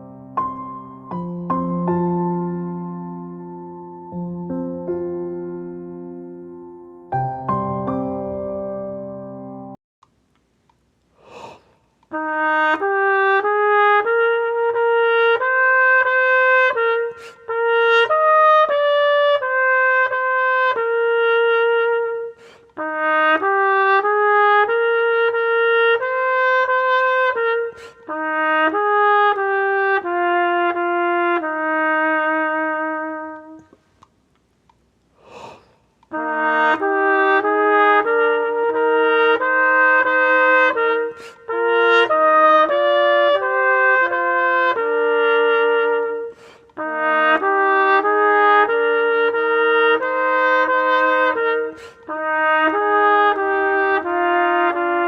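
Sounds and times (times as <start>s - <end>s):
solo trumpet melody: 0.0s - 9.8s, 12.1s - 33.8s, 36.1s - 55.0s.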